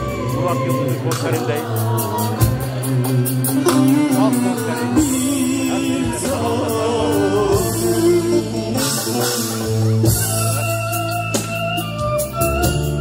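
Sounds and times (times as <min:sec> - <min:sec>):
instrumental backing: 0:00.0 - 0:13.0
person singing live: 0:00.0 - 0:13.0.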